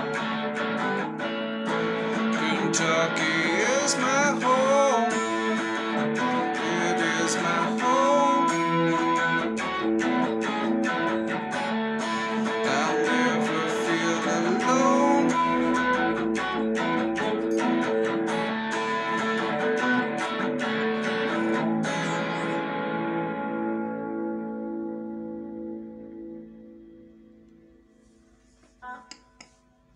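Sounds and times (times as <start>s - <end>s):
electric guitar strummed: 0.0s - 27.9s.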